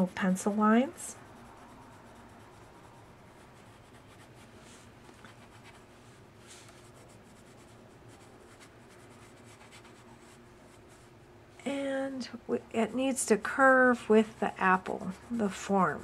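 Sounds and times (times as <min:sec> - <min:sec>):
pencil scratching on paper: 0:00.0 - 0:05.8, 0:06.5 - 0:11.1, 0:13.6 - 0:16.0.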